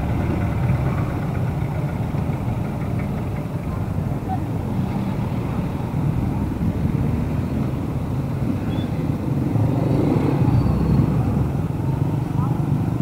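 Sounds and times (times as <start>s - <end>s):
car engines running: 0.0s - 13.0s
motorcycle engines running: 0.0s - 13.0s.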